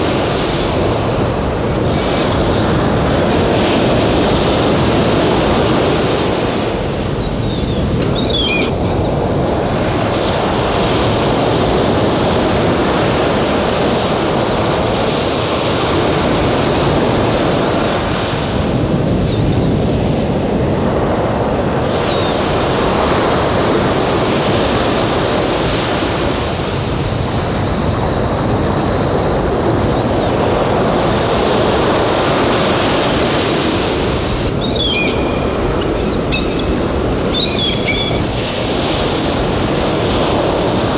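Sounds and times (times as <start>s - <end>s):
sea waves washing in: 0.0s - 40.9s.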